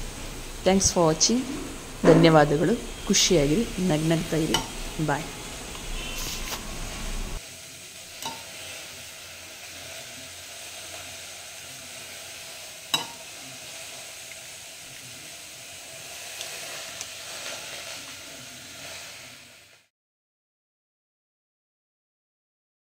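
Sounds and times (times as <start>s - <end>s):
pot sizzling hiss: 0.0s - 19.9s.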